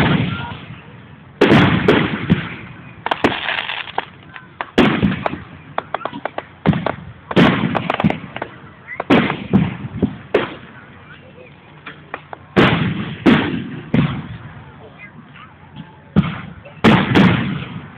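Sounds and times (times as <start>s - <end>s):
fireworks crackling pops: 0.0s - 10.8s, 11.8s - 14.5s, 16.1s - 17.9s
fireworks booming: 0.0s - 11.0s, 11.8s - 14.8s, 15.8s - 17.9s.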